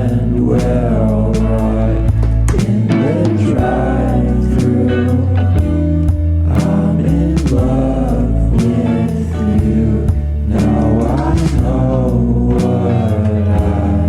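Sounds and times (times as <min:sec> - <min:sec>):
bass guitar and drum beat: 0:00.0 - 0:14.0
song with sung vocals: 0:00.0 - 0:14.0.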